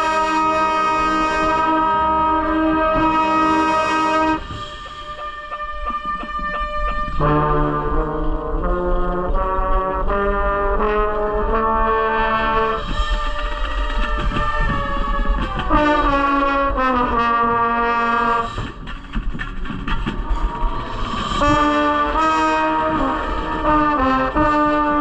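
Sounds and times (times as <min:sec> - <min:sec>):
brass chords: 0:00.0 - 0:18.6, 0:20.2 - 0:25.0.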